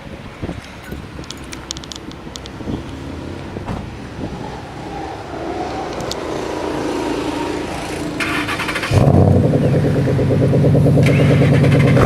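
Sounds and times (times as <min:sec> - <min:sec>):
exhaust crackling: 0:00.4 - 0:12.0
car engine exhaust note rising: 0:01.0 - 0:12.0.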